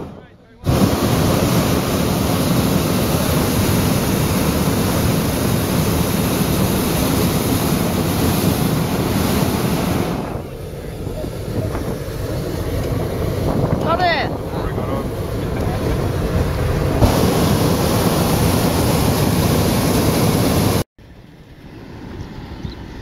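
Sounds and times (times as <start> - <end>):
propane burner blast: 0.0 - 20.9.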